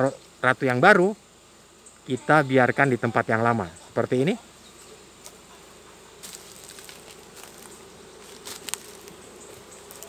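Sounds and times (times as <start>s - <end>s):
bees humming: 0.0s - 10.0s.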